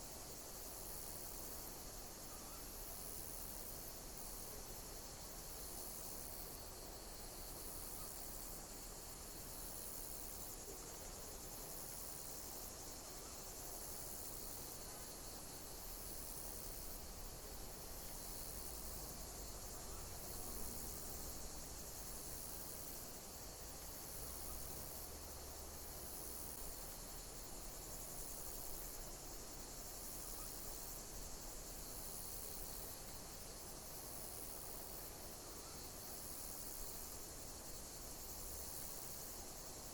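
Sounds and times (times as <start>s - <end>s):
continuous hiss: 0.0s - 39.9s
insects chirping: 0.0s - 39.9s.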